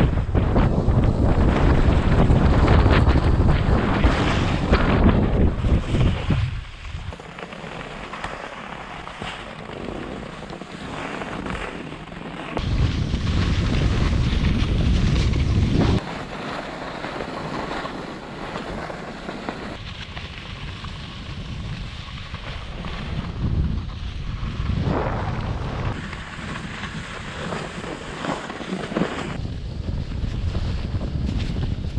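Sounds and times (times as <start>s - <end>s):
wind buffeting microphone: 0.0s - 7.2s, 12.4s - 31.9s
skis sliding on snow: 0.0s - 31.9s.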